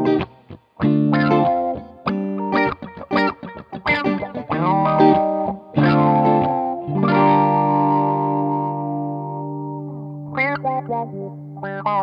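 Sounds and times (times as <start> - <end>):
electric guitars playing: 0.0 - 12.0.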